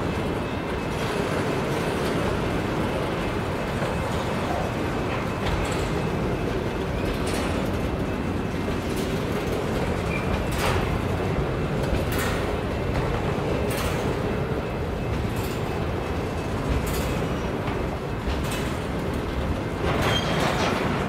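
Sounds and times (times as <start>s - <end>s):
train clanks and screeches: 0.0s - 21.0s
train wheels rumbling on rail: 0.0s - 21.0s.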